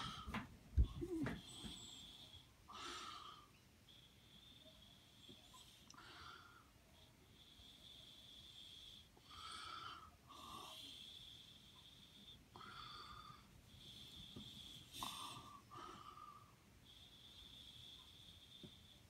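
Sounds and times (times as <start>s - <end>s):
faint whistling breathing: 0.0s - 19.0s.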